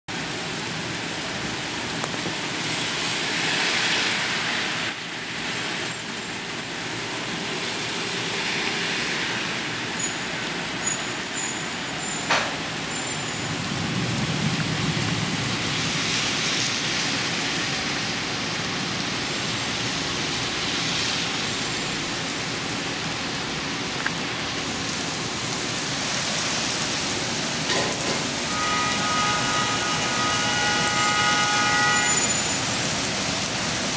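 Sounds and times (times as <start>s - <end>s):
car tyres swishing on wet road: 0.1s - 33.9s
rain on a wet street: 0.1s - 33.9s.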